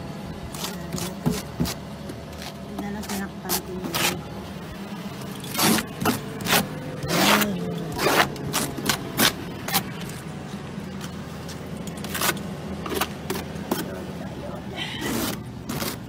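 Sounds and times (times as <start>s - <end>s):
steady low hum: 0.0s - 16.0s
snow brush scraping car: 0.5s - 4.4s, 5.2s - 16.0s.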